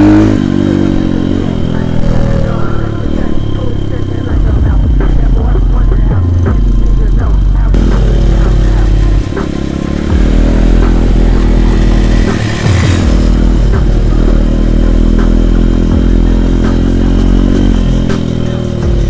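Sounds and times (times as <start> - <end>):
engine clattering: 0.0 - 19.0
small motorcycle engine revving: 0.0 - 19.0.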